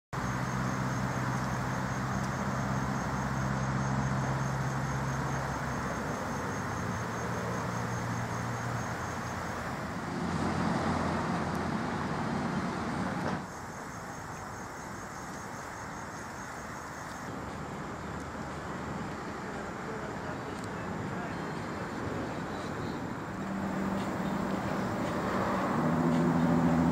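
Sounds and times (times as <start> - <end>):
road traffic: 0.1 - 26.9
low engine hum: 0.2 - 13.5, 17.2 - 26.9
insects chirping: 0.2 - 26.9.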